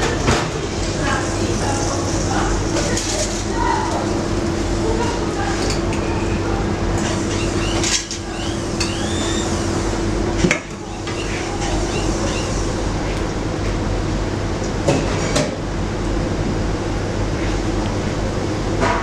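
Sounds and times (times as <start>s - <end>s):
kitchen equipment hum: 0.0s - 18.5s.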